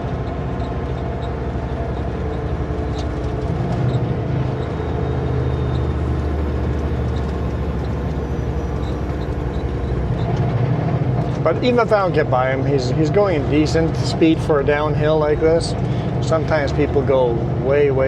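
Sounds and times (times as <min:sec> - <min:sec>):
road noise: 0:00.0 - 0:18.0
truck diesel engine running: 0:00.0 - 0:18.0.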